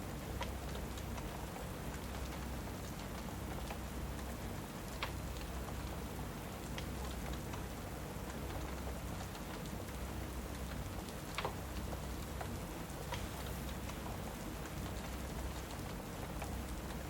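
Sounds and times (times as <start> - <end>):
steady rain: 0.0 - 17.0
fire crackling and popping: 0.1 - 17.0.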